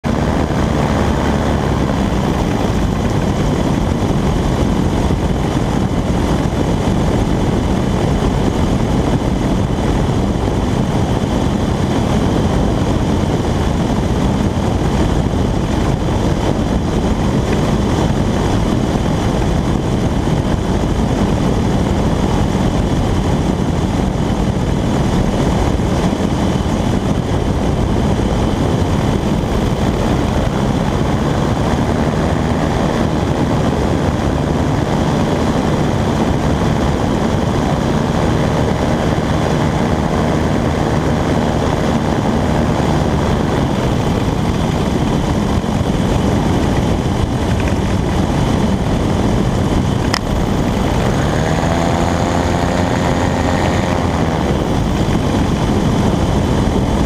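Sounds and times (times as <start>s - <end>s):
aircraft engine and propeller: 0.0s - 57.0s
wind rushing: 0.0s - 57.0s.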